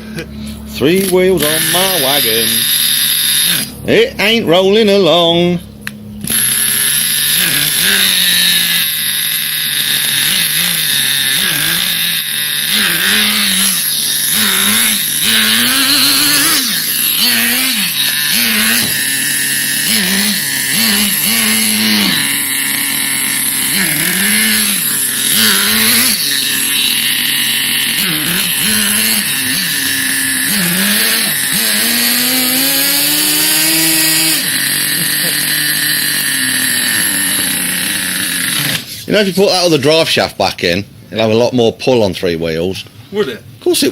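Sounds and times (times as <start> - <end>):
toy car motor revving: 0.0 - 3.8, 5.8 - 39.5.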